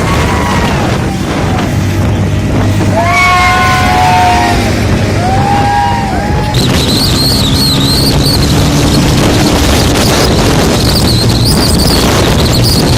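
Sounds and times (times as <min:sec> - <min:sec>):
motorcycle engine rumble: 0:00.0 - 0:12.9
wind buffeting microphone: 0:00.0 - 0:12.9.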